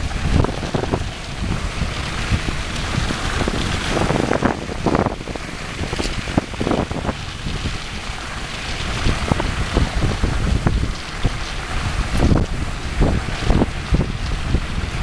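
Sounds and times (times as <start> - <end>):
sled gliding across snow: 0.0 - 15.0
wind buffeting microphone: 0.0 - 15.0.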